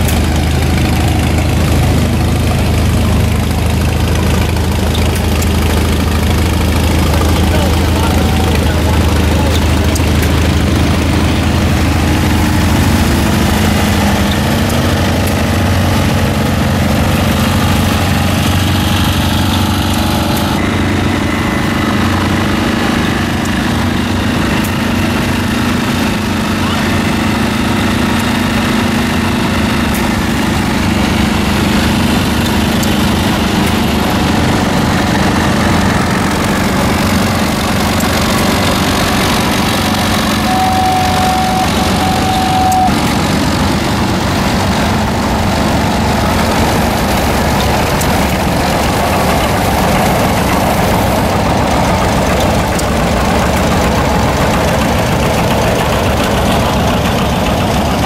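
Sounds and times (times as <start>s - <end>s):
antique engine running: 0.0s - 58.0s.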